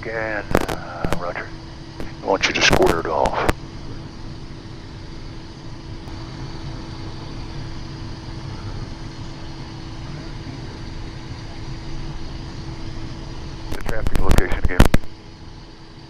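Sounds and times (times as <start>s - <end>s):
jet airflow and engine rumble: 0.0s - 16.0s
steady hum: 0.0s - 16.0s.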